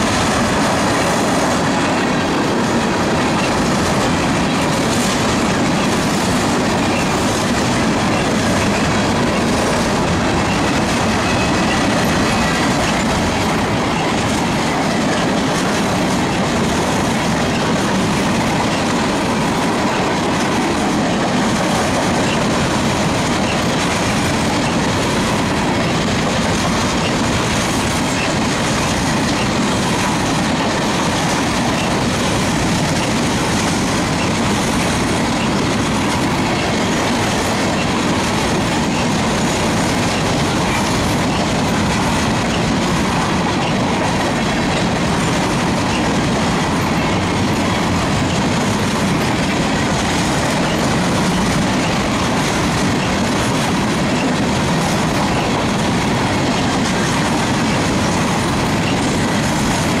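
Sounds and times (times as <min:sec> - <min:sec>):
freight train wheels clacking on rails: 0:00.0 - 1:00.0.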